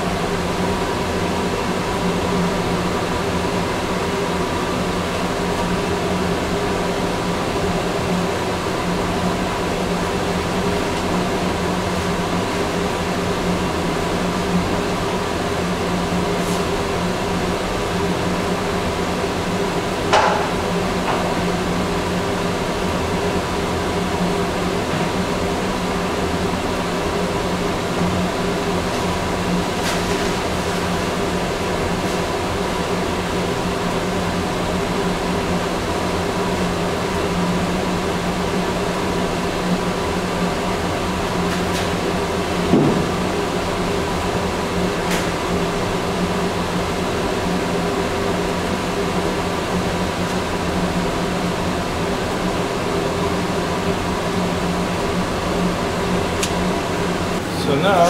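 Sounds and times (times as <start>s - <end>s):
ventilation fan humming: 0.0s - 58.0s.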